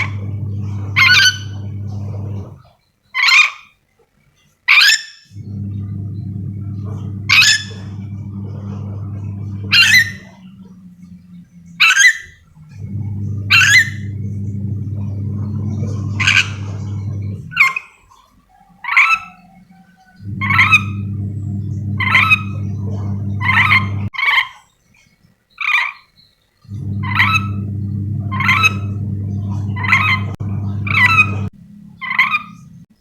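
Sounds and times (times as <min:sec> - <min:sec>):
low steady hum: 0:00.0 - 0:02.7, 0:05.3 - 0:17.7, 0:18.6 - 0:24.1, 0:26.7 - 0:33.0.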